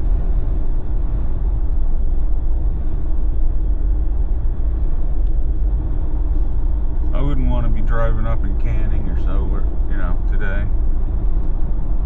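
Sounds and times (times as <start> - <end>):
tyre road noise: 0.0 - 12.0
vehicle engine rumble: 0.0 - 12.0.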